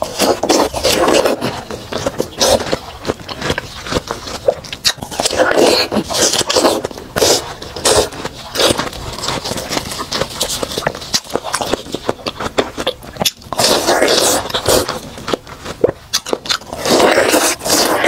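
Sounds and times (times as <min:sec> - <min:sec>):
chewing: 0:00.0 - 0:18.0
crunching watermelon bites: 0:00.0 - 0:18.0.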